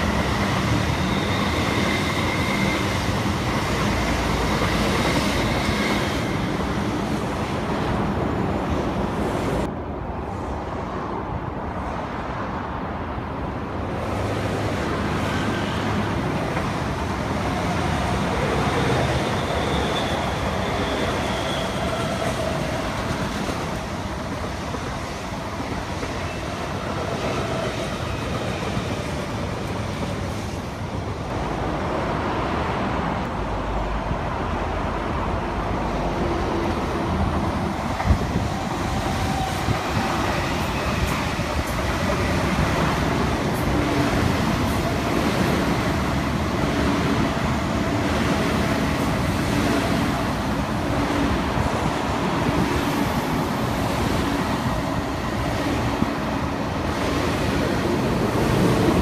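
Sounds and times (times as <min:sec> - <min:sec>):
electric train rumbling on rails: 0:00.0 - 0:59.0.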